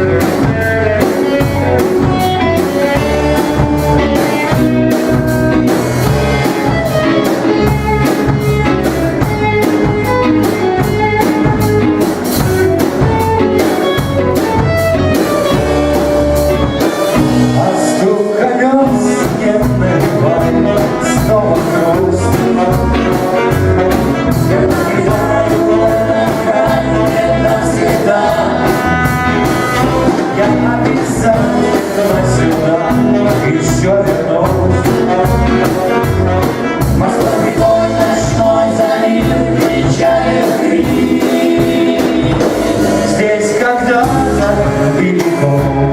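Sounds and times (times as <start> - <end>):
rock band playing: 0.0 - 45.9.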